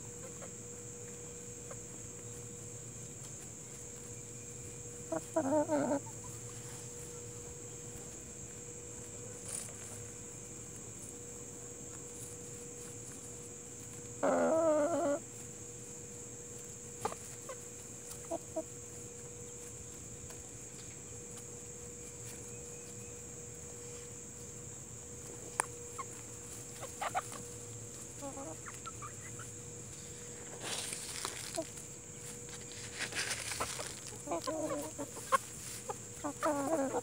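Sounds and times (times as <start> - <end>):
hens clucking softly: 0.0 - 10.0, 11.0 - 22.5, 25.2 - 37.0.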